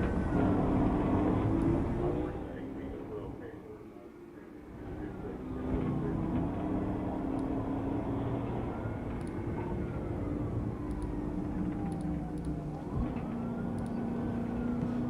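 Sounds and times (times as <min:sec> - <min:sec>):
police siren wailing: 0:00.0 - 0:02.5, 0:04.8 - 0:15.0
car engine and road noise: 0:00.0 - 0:15.0.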